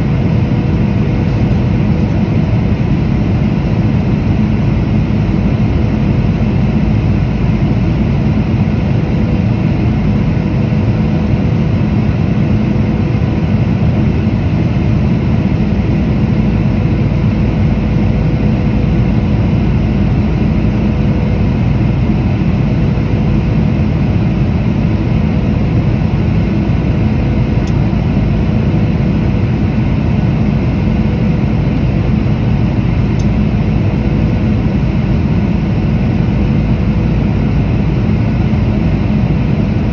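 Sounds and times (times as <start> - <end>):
airplane engine and airflow rumble: 0.0 - 39.9.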